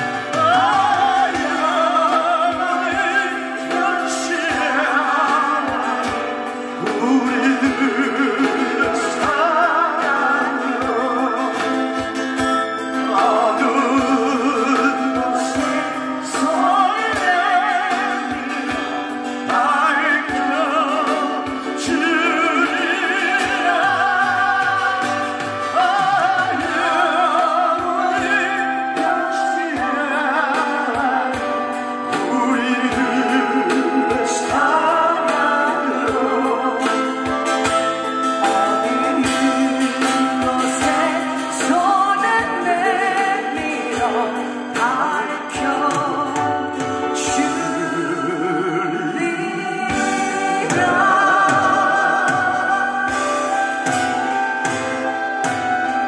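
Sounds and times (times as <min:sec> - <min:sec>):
amplified singing with vibrato: 0:00.0 - 0:56.0
backing track with steady beat: 0:00.0 - 0:56.0.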